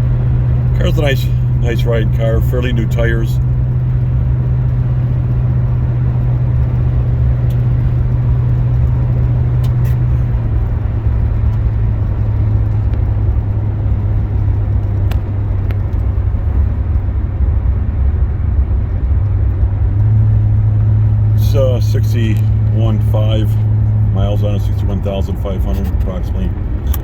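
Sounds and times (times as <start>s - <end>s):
car engine drone inside cabin: 0.0s - 27.0s
road noise: 0.0s - 27.0s.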